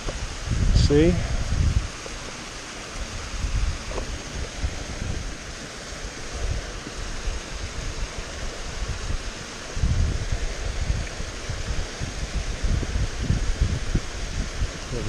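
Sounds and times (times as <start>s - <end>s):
stream rushing over rocky waterfalls: 0.0s - 15.0s
wind buffeting microphone: 0.0s - 15.0s.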